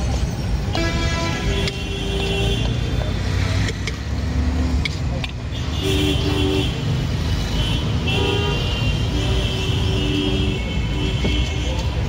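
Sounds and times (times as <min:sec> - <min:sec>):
street traffic rumbling: 0:00.0 - 0:12.0.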